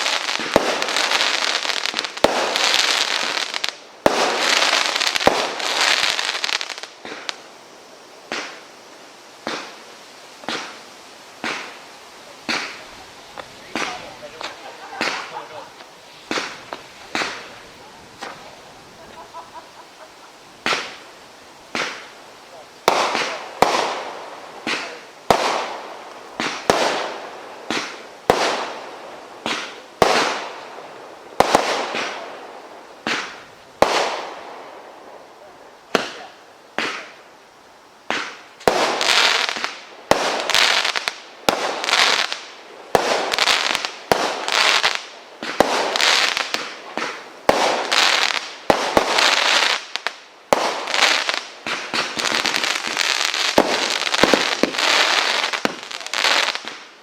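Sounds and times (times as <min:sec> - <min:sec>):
firework bangs: 0:00.0 - 0:07.6, 0:08.2 - 0:37.3, 0:38.0 - 0:57.0.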